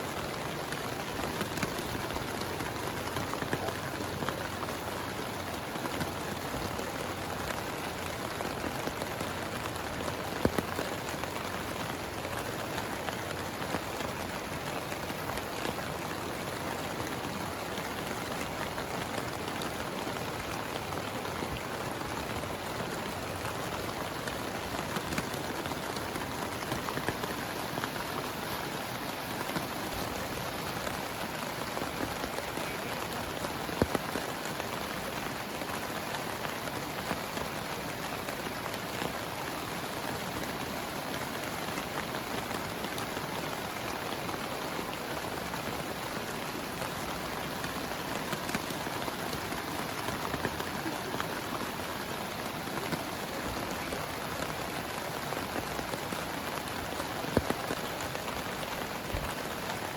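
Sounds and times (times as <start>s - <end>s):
heavy rain falling: 0.0s - 59.9s
raindrops ticking: 0.0s - 59.9s.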